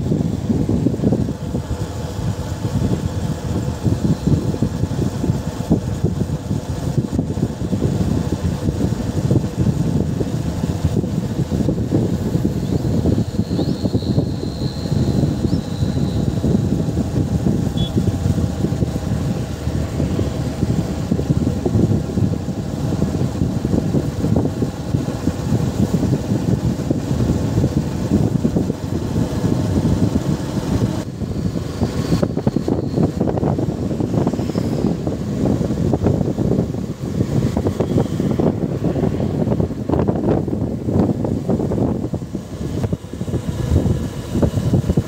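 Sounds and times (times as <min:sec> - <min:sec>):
motorcycle engine: 0:00.0 - 0:40.8
wind buffeting microphone: 0:00.0 - 0:45.0.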